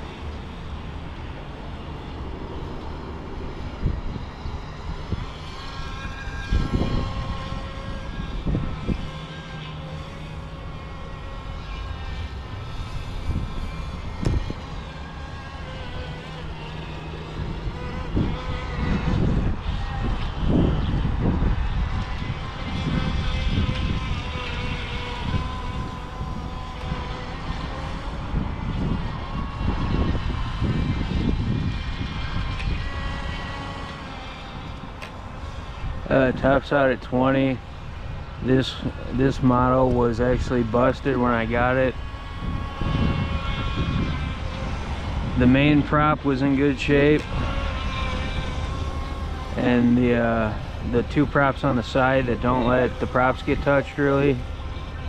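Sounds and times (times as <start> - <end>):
low rumbling noise: 0.0 - 55.0
rc boat motor whining: 0.0 - 55.0.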